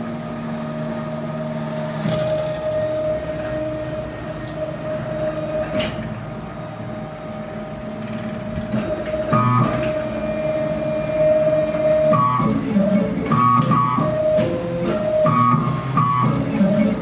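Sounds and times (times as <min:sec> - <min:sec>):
drive motors whining: 0:00.0 - 0:17.0.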